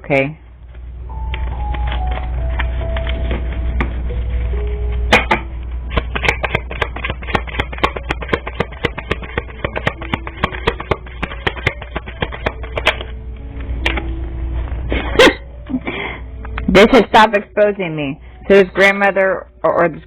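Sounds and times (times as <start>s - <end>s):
low hum: 0.0s - 19.9s
faint background music: 0.0s - 20.0s.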